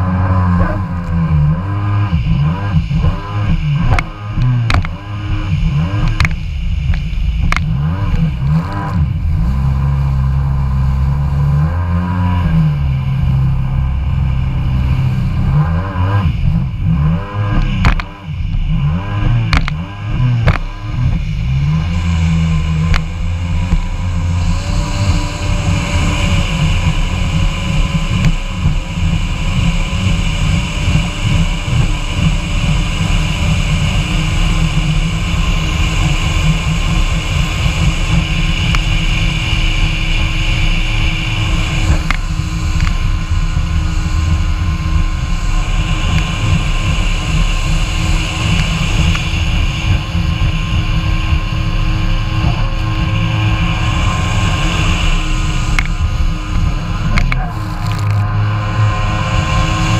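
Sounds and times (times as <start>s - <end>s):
jet ski engine cruising: 0.0s - 59.9s.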